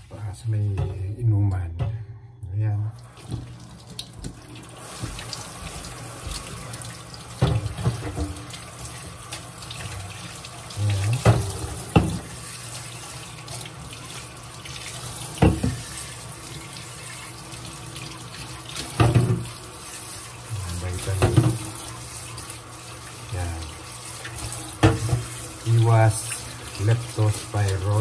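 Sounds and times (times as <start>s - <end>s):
faucet running into metal sink: 2.9s - 28.0s.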